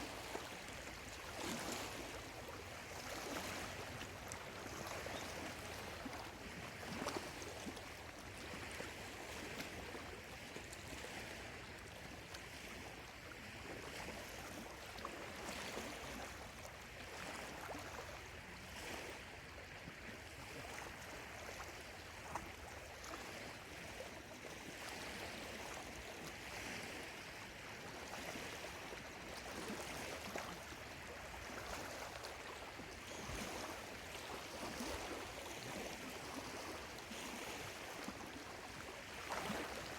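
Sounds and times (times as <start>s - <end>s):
lake waves lapping at shore: 0.0s - 39.9s.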